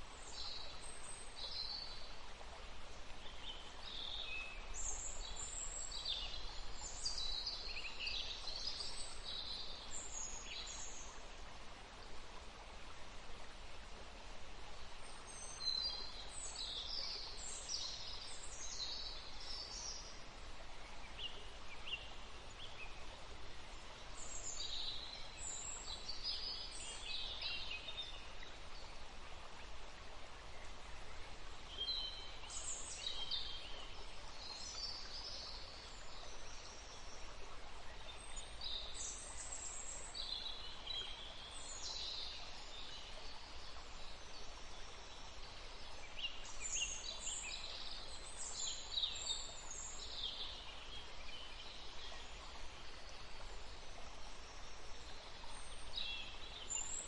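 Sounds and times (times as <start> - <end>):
forest stream rushing: 0.0 - 57.0
songbirds chirping: 0.0 - 57.0.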